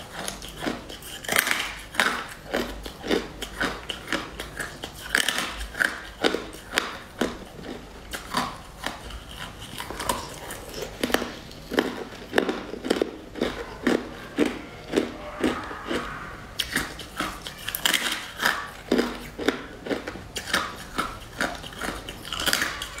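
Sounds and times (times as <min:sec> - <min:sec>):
crunching frozen sticks: 0:00.0 - 0:23.0.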